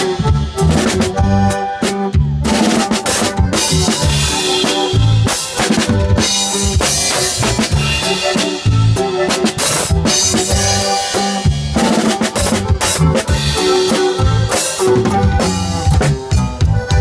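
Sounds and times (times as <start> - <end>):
drum kit beat: 0.0 - 17.0
live band music: 0.0 - 17.0.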